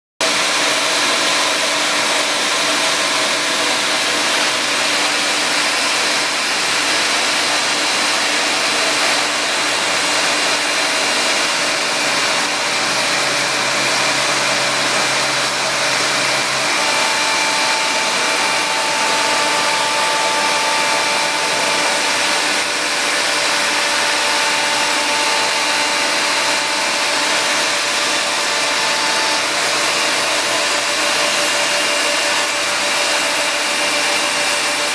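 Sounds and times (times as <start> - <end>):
vacuum running: 0.2 - 34.9.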